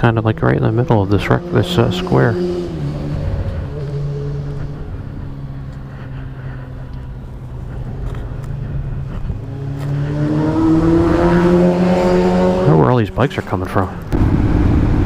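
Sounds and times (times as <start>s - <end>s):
low wind rumble: 0.0s - 13.3s, 13.9s - 15.0s
motorcycle engine: 0.0s - 15.0s.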